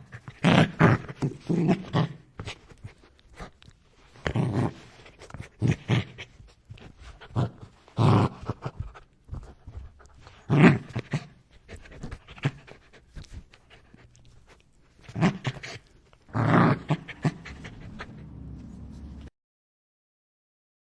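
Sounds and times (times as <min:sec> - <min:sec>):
dog snarling and growling: 0:00.0 - 0:02.6, 0:04.2 - 0:19.3
dog panting: 0:00.0 - 0:19.3.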